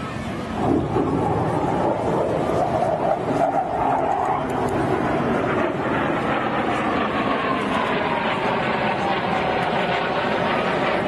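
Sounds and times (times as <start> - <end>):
falling jet whine: 0.0 - 11.0
jet engine flyby: 0.0 - 11.0.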